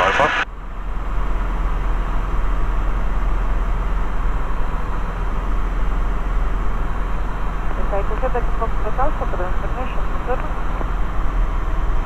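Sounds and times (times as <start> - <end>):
propeller aircraft engine droning: 0.0 - 12.0.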